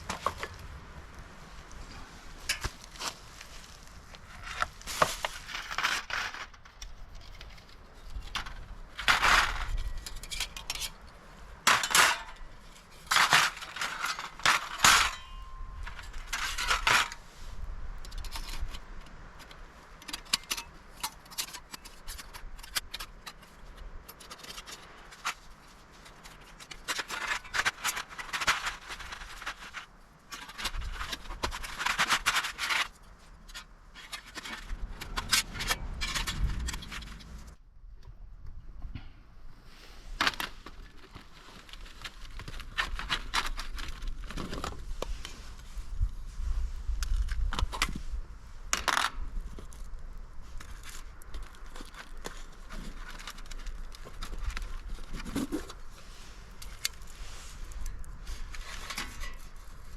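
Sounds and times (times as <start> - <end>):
camping gear scraping and rustling: 0.0 - 37.6, 39.6 - 59.9.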